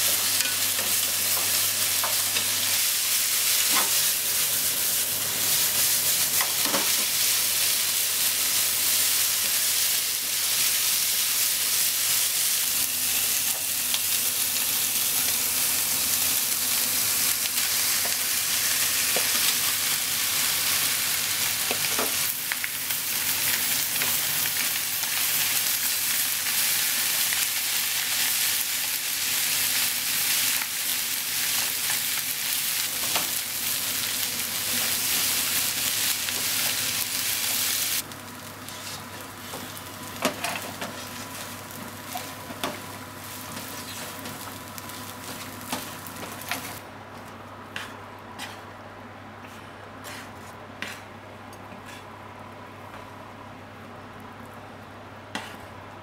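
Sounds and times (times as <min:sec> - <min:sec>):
food sizzling in a frying pan: 0:00.0 - 0:46.8.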